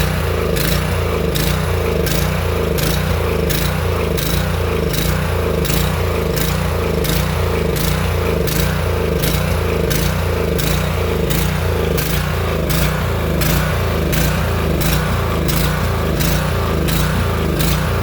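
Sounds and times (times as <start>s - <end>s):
small gasoline engine running: 0.0s - 18.0s.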